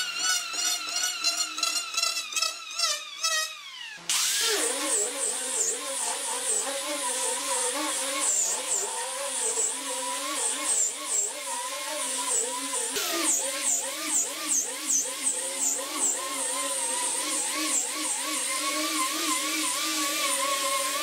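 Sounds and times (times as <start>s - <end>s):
angle grinder sanding wood: 0.0s - 21.0s.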